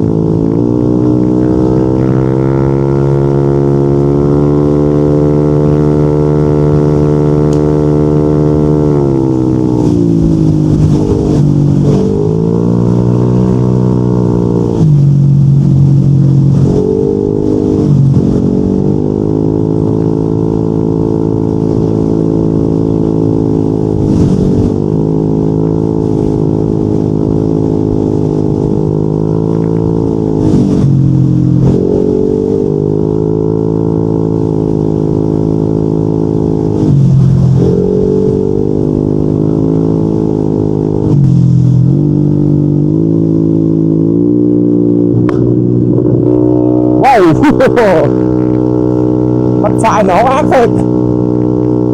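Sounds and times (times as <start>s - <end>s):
scooter engine while riding: 0.0s - 51.9s.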